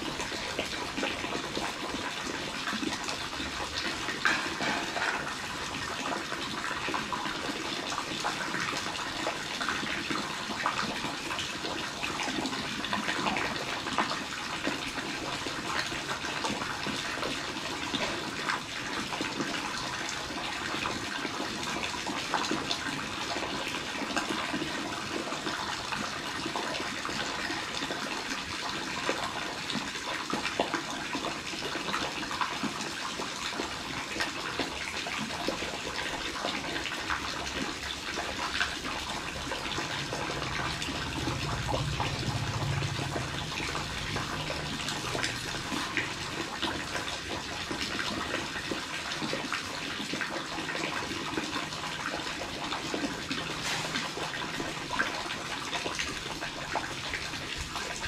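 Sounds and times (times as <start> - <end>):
running water splashing: 0.0 - 58.0.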